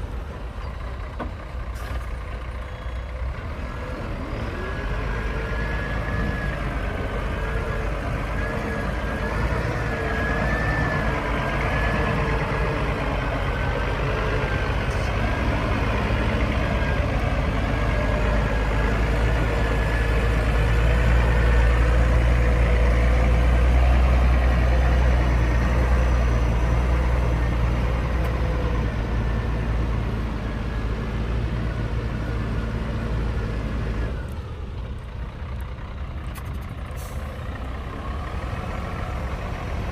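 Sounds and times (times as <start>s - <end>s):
heavy diesel engine rumble: 0.0s - 39.9s.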